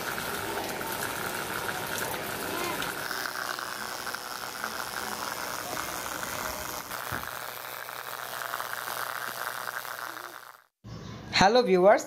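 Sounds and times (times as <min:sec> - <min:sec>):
water gushing: 0:00.0 - 0:10.7
water pump buzzing: 0:00.0 - 0:10.7.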